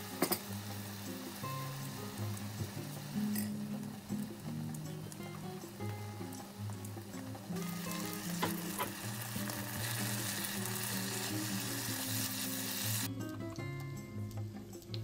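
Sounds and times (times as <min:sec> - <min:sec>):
vegetables sizzling in frying pan: 0:00.0 - 0:13.1.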